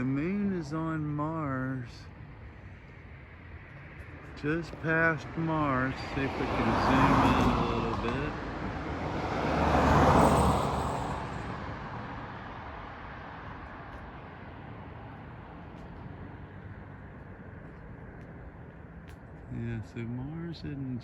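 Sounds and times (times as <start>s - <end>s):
distant traffic: 0.0s - 21.0s
car passing by: 0.8s - 20.4s.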